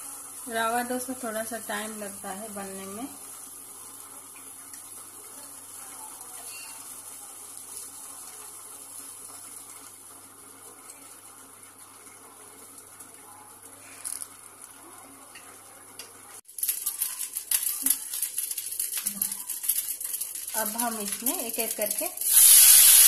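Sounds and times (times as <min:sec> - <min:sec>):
soft hiss of pan cooking: 0:00.0 - 0:23.0.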